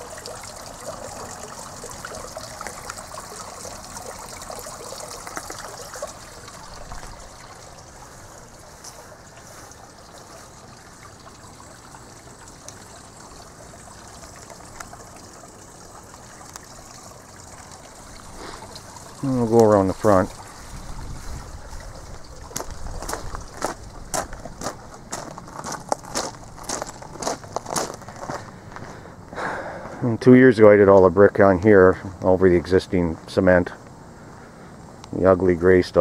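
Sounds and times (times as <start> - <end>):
fountain water trickling: 0.0 - 28.8, 29.6 - 36.0.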